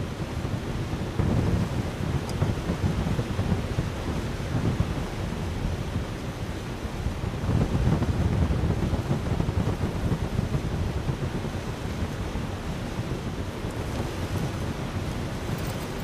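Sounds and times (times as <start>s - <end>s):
strong rushing wind: 0.0s - 16.0s.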